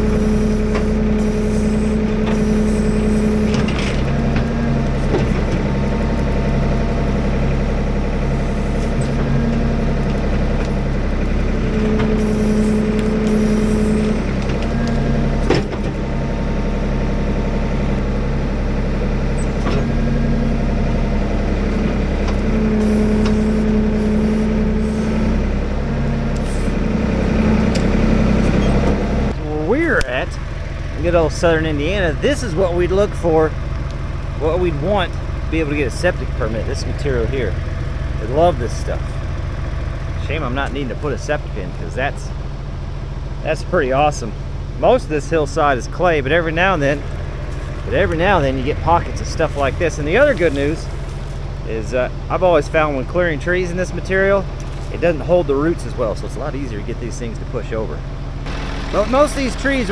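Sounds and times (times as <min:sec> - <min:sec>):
backhoe engine rumble: 0:00.0 - 0:59.9
hydraulic droning tone: 0:00.0 - 0:59.9.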